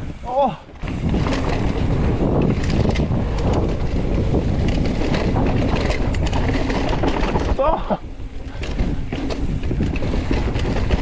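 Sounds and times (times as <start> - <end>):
bike rattling over bumps: 0.0 - 11.0
wind rush over microphone: 0.0 - 11.0.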